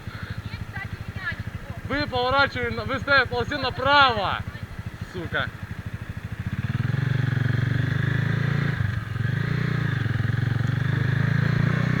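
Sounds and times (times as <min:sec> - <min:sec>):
motorcycle engine pulling away: 0:00.0 - 0:12.0.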